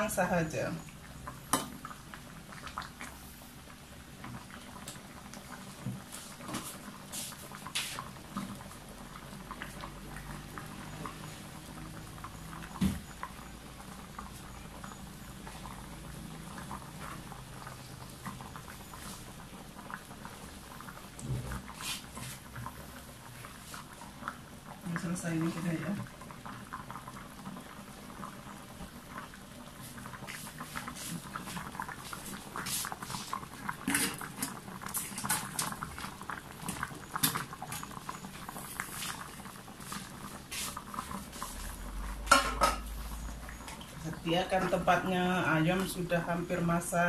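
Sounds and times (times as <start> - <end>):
curry bubbling in a wok: 0.0 - 47.0.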